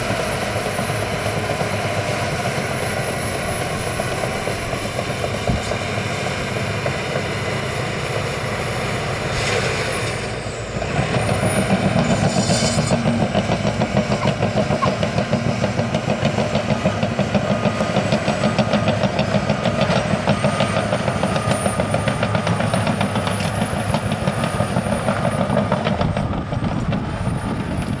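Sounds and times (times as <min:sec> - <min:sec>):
bulldozer diesel engine: 0:00.0 - 0:28.0
steel tracks clattering: 0:00.0 - 0:28.0.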